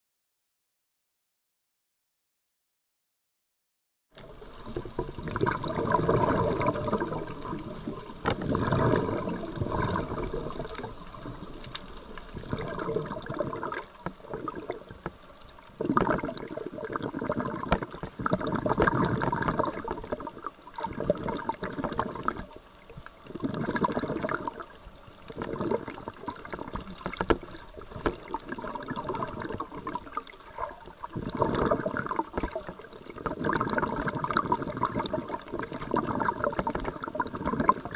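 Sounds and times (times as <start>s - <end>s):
shallow water sloshing: 4.2s - 37.9s.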